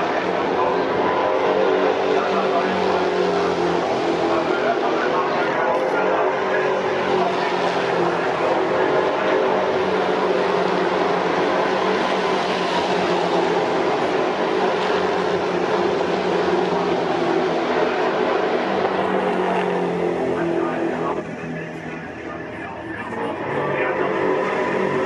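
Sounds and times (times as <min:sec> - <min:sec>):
race car engines passing: 0:00.0 - 0:25.0.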